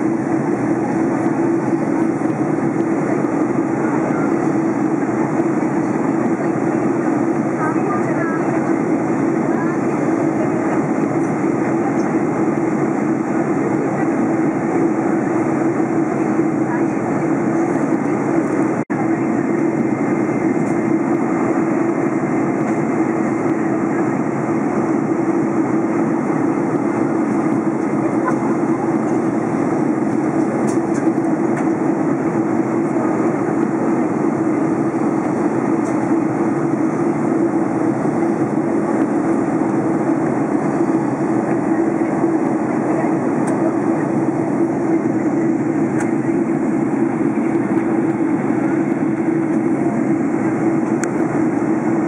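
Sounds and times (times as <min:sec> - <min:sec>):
jet engine drone: 0:00.0 - 0:52.0.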